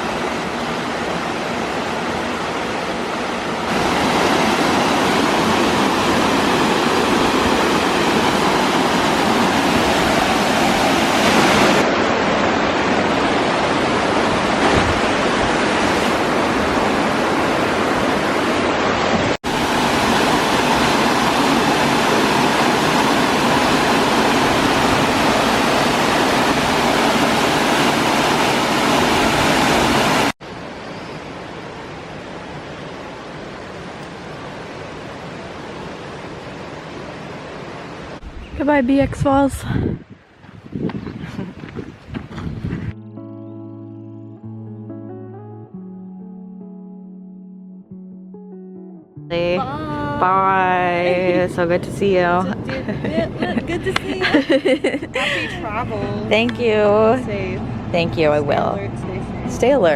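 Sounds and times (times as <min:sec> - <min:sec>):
waterfall rushing: 0:00.0 - 0:38.2, 0:49.4 - 0:59.2.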